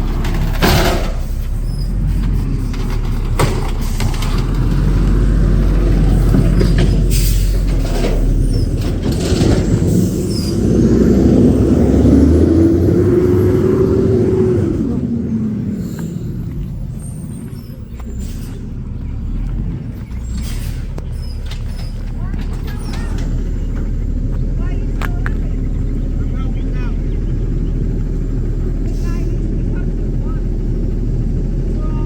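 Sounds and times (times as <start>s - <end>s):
engine revving with whine: 0.0s - 32.0s
garbage truck engine rumbling: 0.0s - 32.0s.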